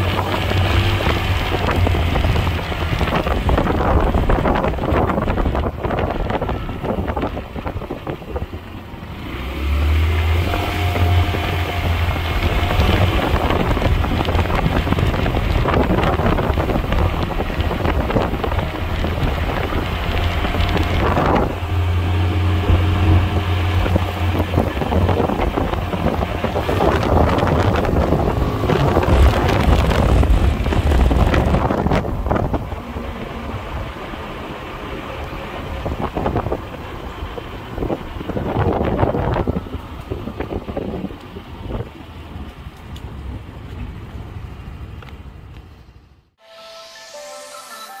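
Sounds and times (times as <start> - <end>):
scooter engine accelerating: 0.0 - 44.9
wind buffeting microphone: 0.0 - 45.6.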